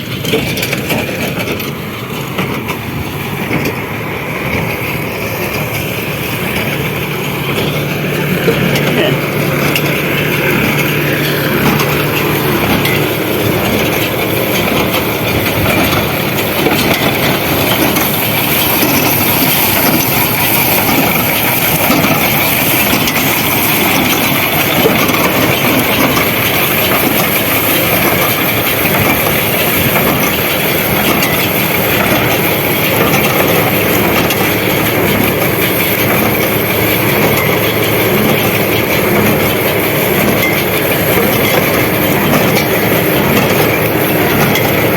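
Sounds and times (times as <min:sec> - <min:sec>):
tractor with machinery clattering: 0:00.0 - 0:44.9.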